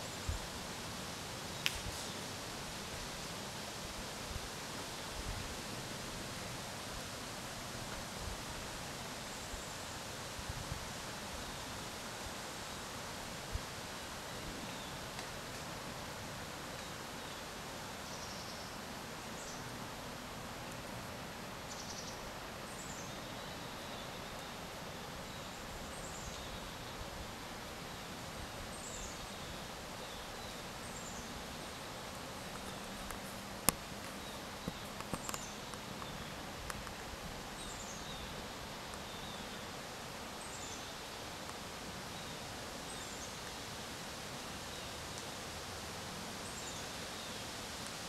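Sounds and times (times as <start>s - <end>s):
steady outdoor hiss: 0.0s - 48.0s.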